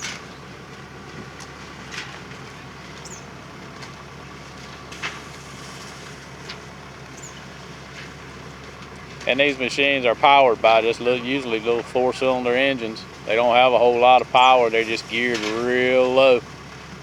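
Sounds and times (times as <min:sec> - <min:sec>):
harvester engine droning: 0:00.0 - 0:17.0.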